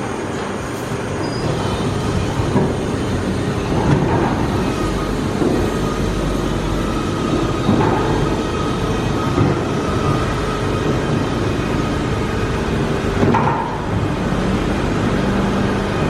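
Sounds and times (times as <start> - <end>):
car wash machinery and water: 0.0 - 16.0.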